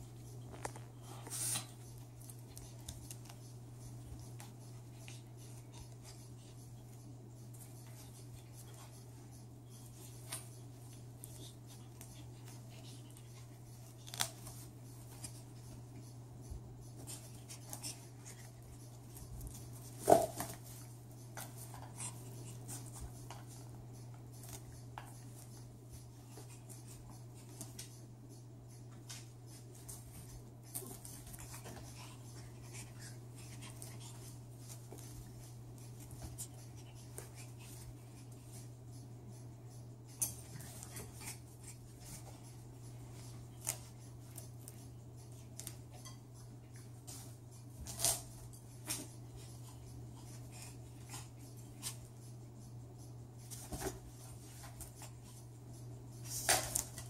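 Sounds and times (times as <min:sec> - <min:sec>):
raccoon scratching on cat scratcher: 0:00.0 - 0:28.1, 0:28.8 - 0:57.0
steady low hum: 0:00.0 - 0:57.0.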